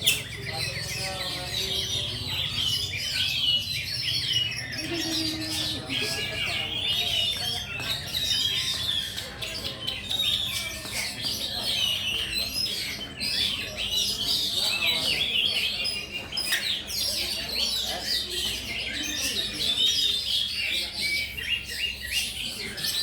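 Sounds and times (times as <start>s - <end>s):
birds singing with quick chirps: 0.0s - 23.0s.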